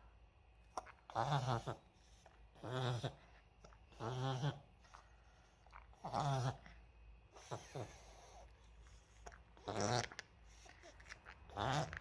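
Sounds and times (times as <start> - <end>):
dog snorting inhalations: 1.1 - 11.9.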